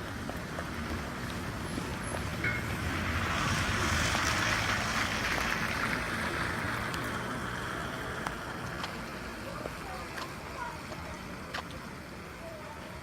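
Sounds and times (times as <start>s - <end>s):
tyre hiss on wet road: 0.7s - 12.8s.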